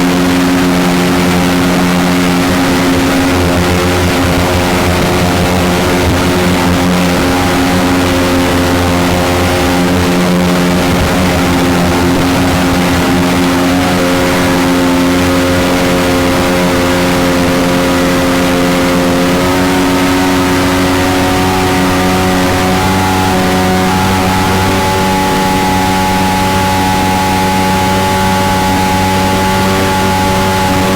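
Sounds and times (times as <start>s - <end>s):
boat engine running at speed: 0.0s - 30.9s
rush of water: 0.0s - 30.9s
wind noise: 0.0s - 30.9s.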